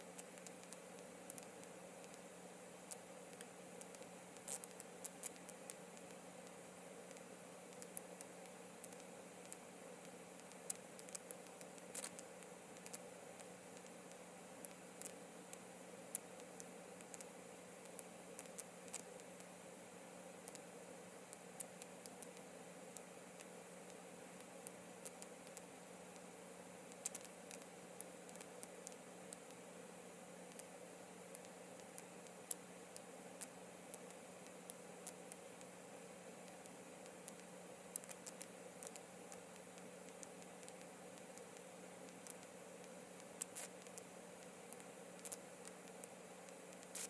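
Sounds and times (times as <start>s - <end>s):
sharp high ticks: 0.0s - 19.6s, 20.4s - 20.7s, 21.3s - 29.7s, 30.4s - 35.8s, 36.4s - 47.0s
background hiss: 0.0s - 47.0s
small sharp clicks: 0.1s - 2.3s, 2.9s - 19.6s, 20.4s - 20.7s, 21.3s - 26.3s, 26.9s - 29.7s, 30.4s - 30.7s, 31.3s - 35.8s, 36.4s - 47.0s.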